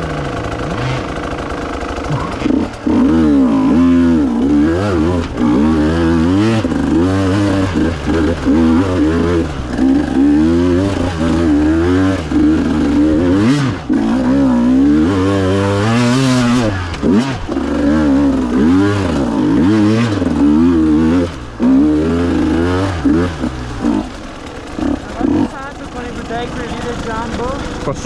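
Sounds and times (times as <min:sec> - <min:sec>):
clatter: 0:00.0 - 0:28.0
dirt bike engine revving: 0:00.0 - 0:28.0.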